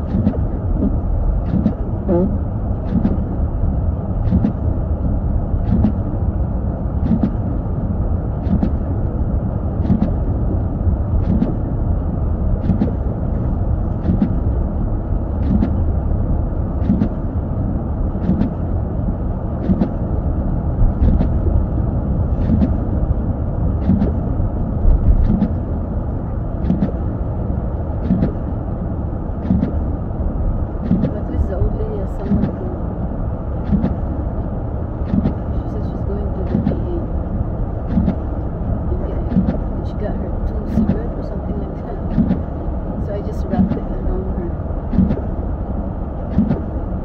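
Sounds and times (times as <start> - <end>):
windshield wipers sweeping: 0.0 - 6.3, 6.9 - 9.1, 9.7 - 16.0, 16.6 - 17.4, 18.0 - 27.2, 27.8 - 28.7, 29.3 - 30.0, 30.7 - 32.9, 33.5 - 37.0, 37.8 - 47.0
road rumble inside car: 0.0 - 47.0.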